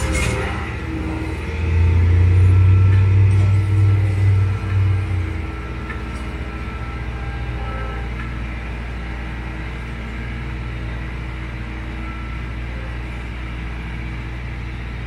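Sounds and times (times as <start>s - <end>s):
tractor engine running: 0.0s - 12.7s.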